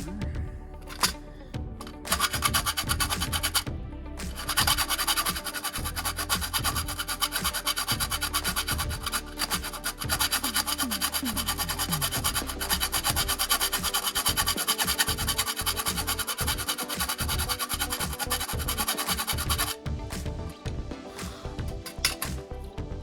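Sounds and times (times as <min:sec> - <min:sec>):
fast beat music with sliding bass: 0:00.0 - 0:23.0.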